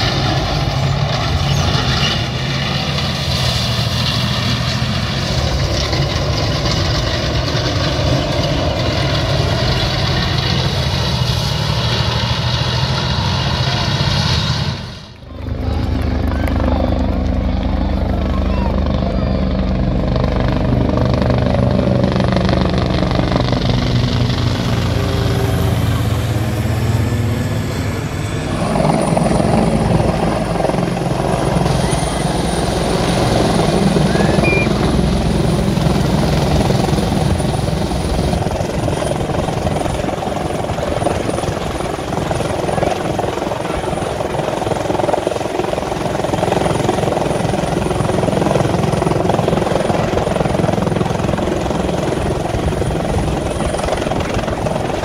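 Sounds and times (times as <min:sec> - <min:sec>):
helicopter flying past: 0:00.0 - 0:55.0
helicopter hovering low: 0:00.0 - 0:55.0
propeller plane flying past: 0:00.0 - 0:55.0.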